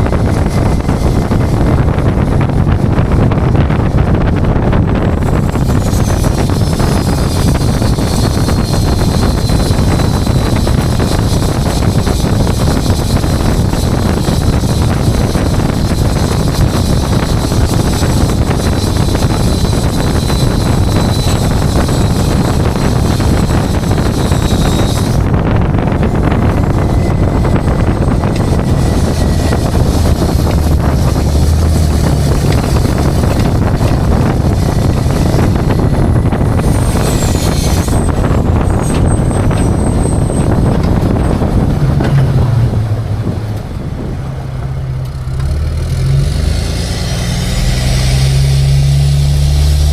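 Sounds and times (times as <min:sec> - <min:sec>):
road and wind noise on microphone: 0:00.0 - 0:49.9
truck engine: 0:00.0 - 0:49.9.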